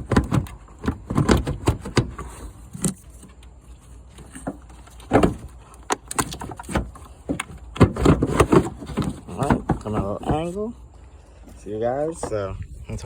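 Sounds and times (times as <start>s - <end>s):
plastic parts knocking and scraping: 0.0s - 10.7s.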